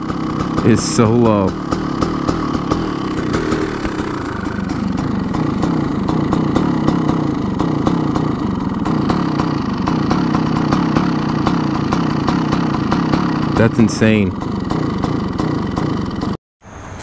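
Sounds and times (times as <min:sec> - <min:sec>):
two-stroke motorcycle idling: 0:00.0 - 0:17.0.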